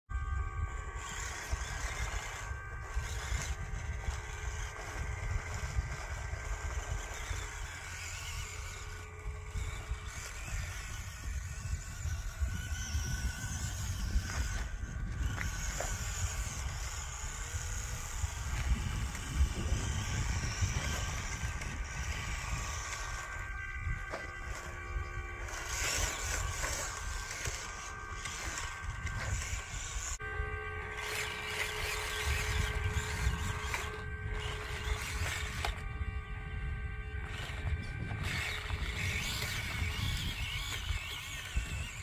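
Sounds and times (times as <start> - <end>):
small electric motors whining: 0.1 - 42.0.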